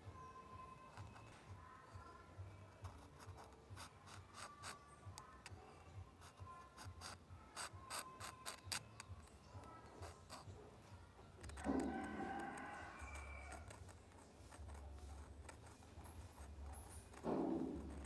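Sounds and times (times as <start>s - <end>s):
pen nib scratching on paper: 0.6s - 18.0s.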